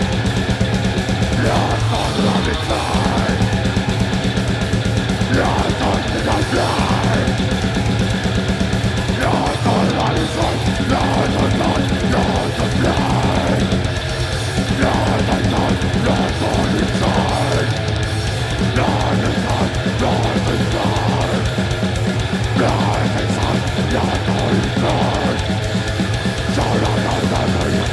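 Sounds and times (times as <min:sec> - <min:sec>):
bass guitar riff: 0:00.0 - 0:27.9
distorted electric guitars: 0:00.0 - 0:27.9
fast dense drumming: 0:00.0 - 0:27.9.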